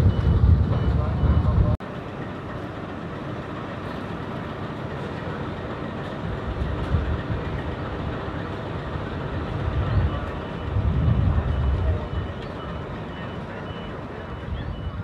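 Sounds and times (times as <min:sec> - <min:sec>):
train rumble and rush: 0:00.0 - 0:15.0.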